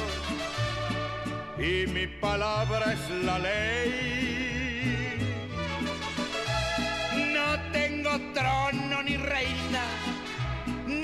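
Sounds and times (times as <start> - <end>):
mariachi band playing: 0.0 - 11.0.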